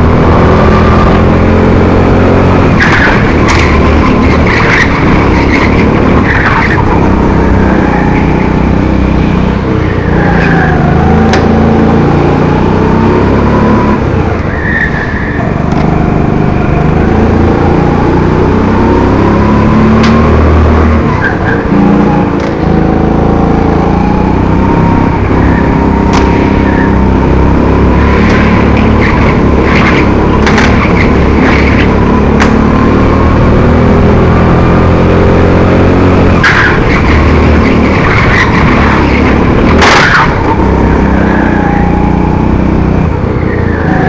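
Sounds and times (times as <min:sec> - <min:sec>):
go-kart engine running hard: 0:00.0 - 0:44.0.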